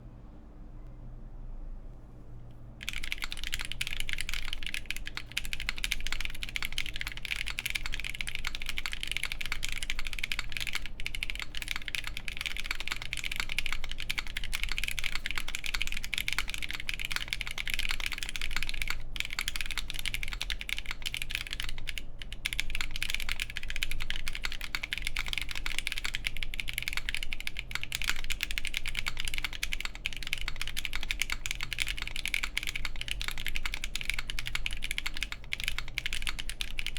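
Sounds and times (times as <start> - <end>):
fast typing on mechanical keyboard: 2.8 - 36.9.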